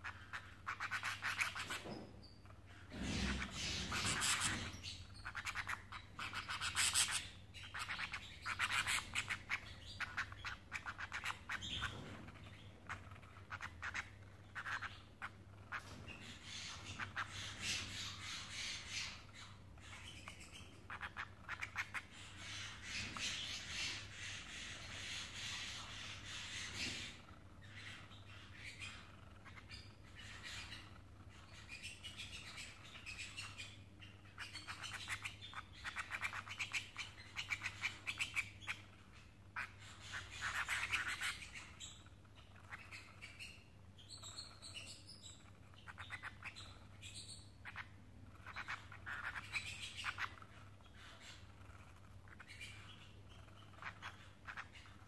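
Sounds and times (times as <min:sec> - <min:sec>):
canaries chirping and squawking: 0:00.0 - 0:55.0.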